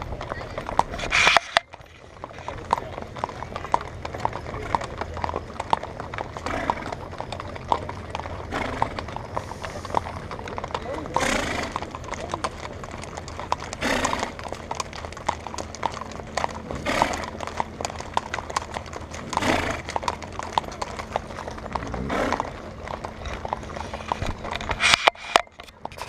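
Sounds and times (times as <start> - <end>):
hooves clip-clopping on asphalt: 0.0 - 26.0.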